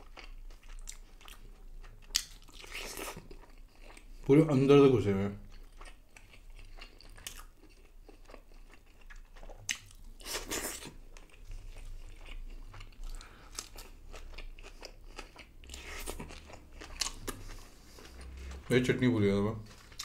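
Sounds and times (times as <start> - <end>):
person chewing crisp fried food: 0.0 - 4.3, 5.4 - 18.8, 19.7 - 20.0.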